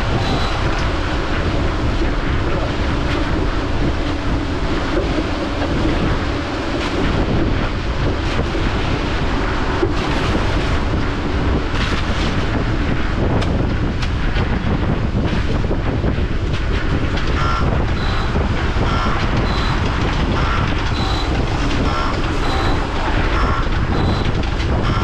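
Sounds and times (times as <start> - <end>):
heavy machine rumbling: 0.0 - 25.0.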